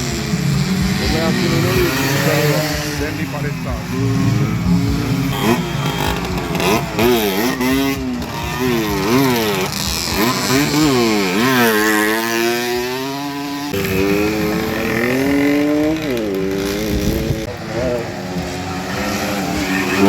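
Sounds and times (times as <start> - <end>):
two-stroke motorcycle engines racing: 0.0 - 20.0.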